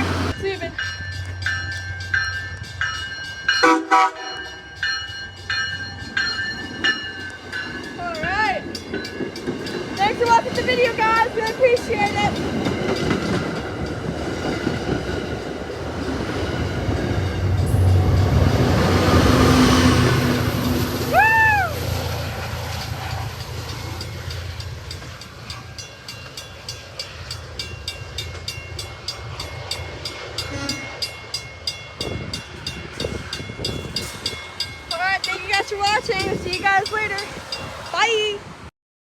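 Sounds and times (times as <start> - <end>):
train rumbling past: 0.0 - 38.7.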